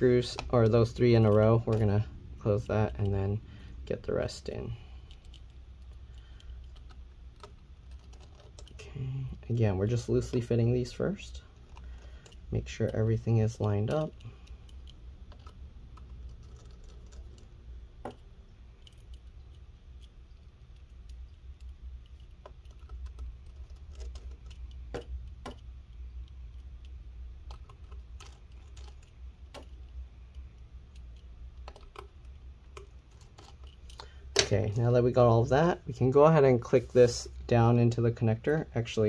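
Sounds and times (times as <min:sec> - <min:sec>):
faint clicks and taps: 0:00.0 - 0:03.3, 0:03.9 - 0:34.9
low steady hum: 0:00.0 - 0:39.0.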